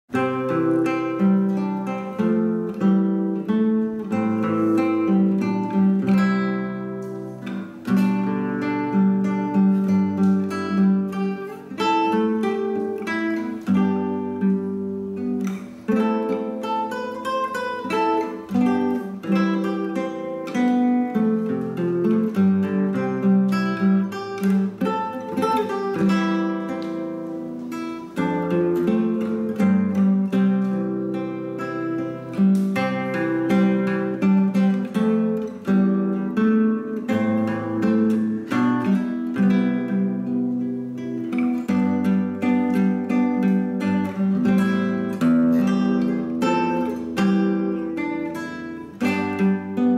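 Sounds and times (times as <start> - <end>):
acoustic guitar chords: 0.0 - 49.9.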